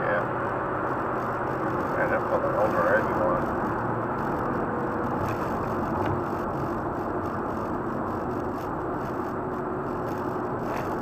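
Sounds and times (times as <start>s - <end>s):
car cabin road and engine noise: 0.0s - 11.0s.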